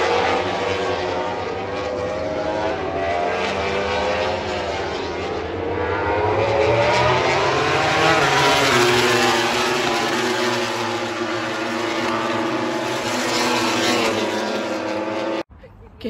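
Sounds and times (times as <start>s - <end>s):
racing motorcycle engines revving: 0.0s - 15.5s.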